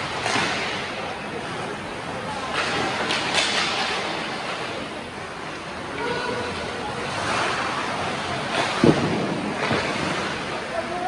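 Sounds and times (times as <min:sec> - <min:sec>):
spectators' voices: 0:00.0 - 0:11.0.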